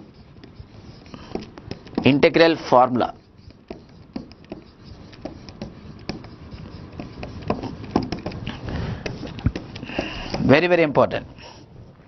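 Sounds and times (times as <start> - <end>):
marker writing on whiteboard: 0.0 - 10.7.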